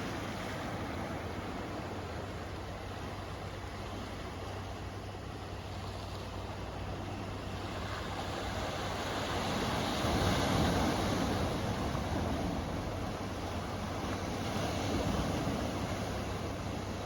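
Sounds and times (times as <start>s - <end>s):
ocean surf washing in: 0.0s - 17.0s.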